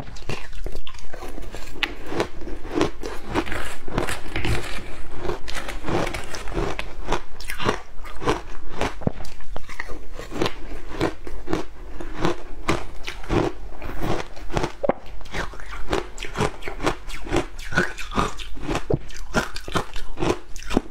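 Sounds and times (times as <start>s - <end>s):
crunchy ice chewing: 0.1s - 20.9s.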